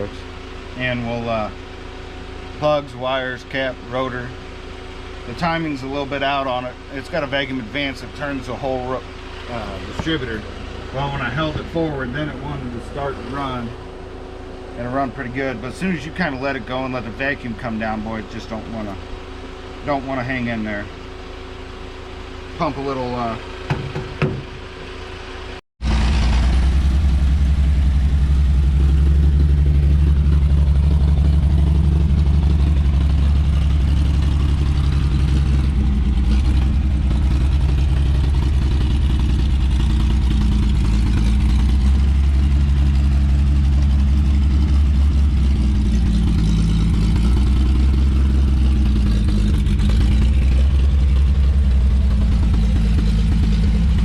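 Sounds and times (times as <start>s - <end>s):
engine running rough: 0.0s - 54.0s.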